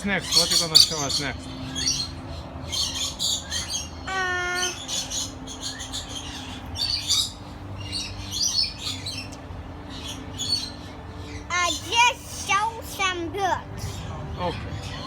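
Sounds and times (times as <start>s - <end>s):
parrots chirping and chattering: 0.0s - 15.0s.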